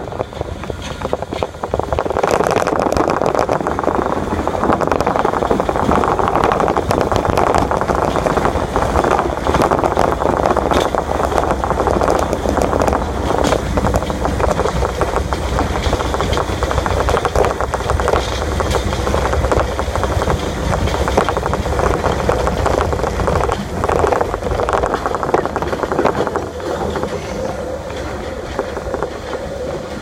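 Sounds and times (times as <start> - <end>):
subway car rumbling: 0.0 - 30.0.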